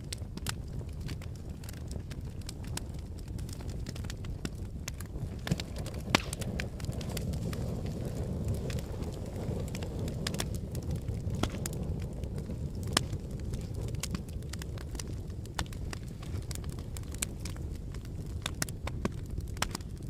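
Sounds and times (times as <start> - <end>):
volcanic rumble: 0.0 - 20.0
sharp cracks and clicks: 0.1 - 20.0.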